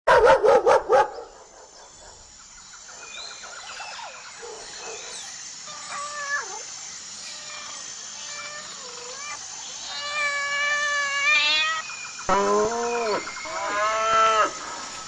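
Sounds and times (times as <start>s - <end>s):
loud wavering animal calls: 2.9s - 15.0s.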